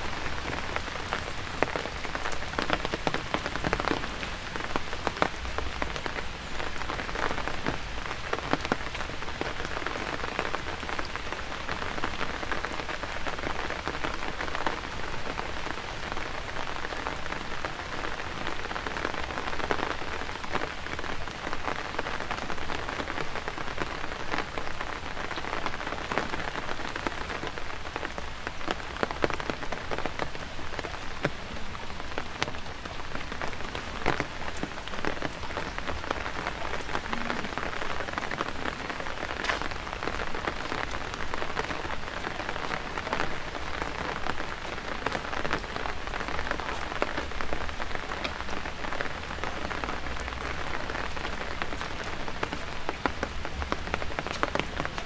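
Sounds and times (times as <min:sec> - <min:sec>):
rain on pavement and foliage: 0:00.0 - 0:55.0.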